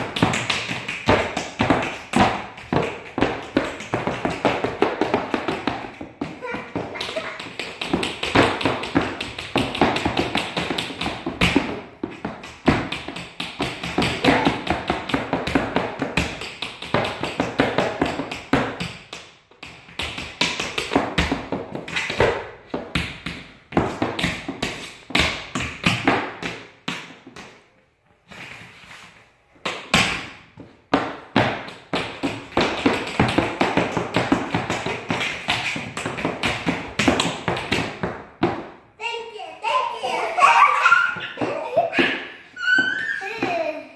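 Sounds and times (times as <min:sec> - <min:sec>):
tap shoes on hard floor: 0:00.0 - 0:27.6, 0:29.6 - 0:38.8, 0:40.4 - 0:43.8.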